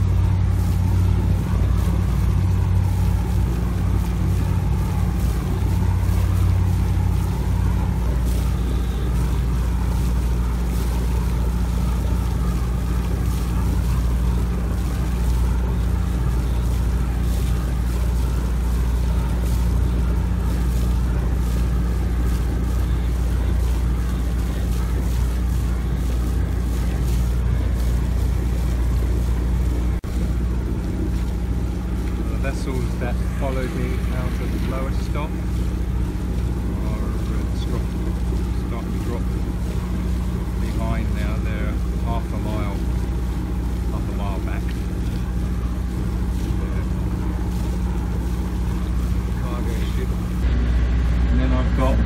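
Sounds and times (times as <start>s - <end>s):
boat engine humming: 0.0s - 52.0s
rushing water: 0.0s - 52.0s
wind: 0.0s - 52.0s.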